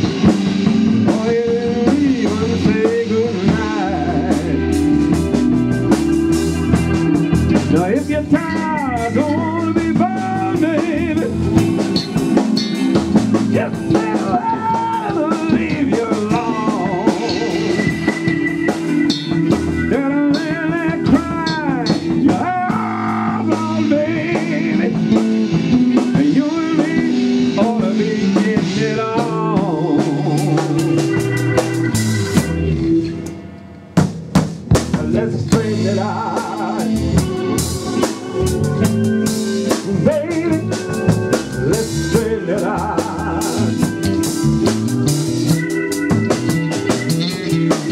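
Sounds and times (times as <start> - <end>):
bending guitar lead line: 0.0 - 47.9
live blues band playing: 0.0 - 47.9.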